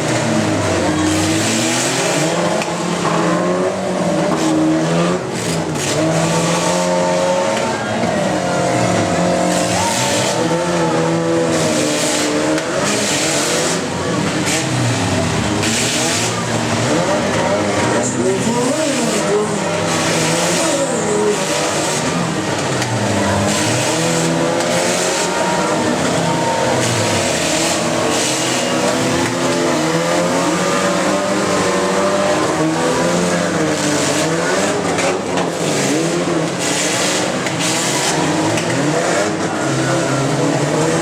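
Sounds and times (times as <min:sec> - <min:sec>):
car engines revving: 0:00.0 - 0:41.0
cars crashing into each other: 0:04.2 - 0:41.0.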